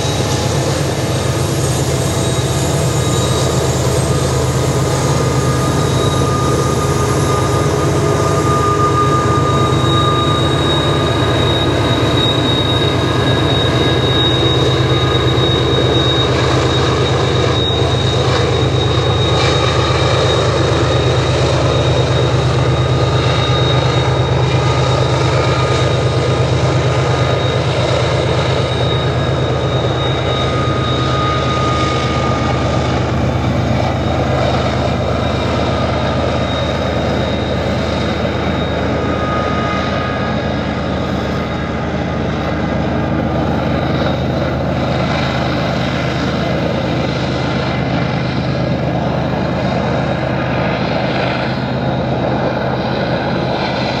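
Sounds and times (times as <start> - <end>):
diesel locomotive drone: 0.0 - 54.0
train wheels squealing: 0.0 - 54.0.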